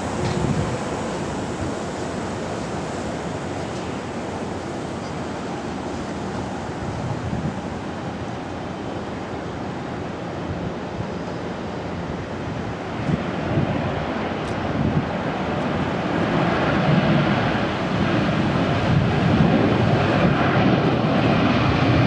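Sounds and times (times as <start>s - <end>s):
wind on microphone: 0.0s - 8.6s, 12.5s - 22.0s
jet airliner roar: 0.0s - 22.0s.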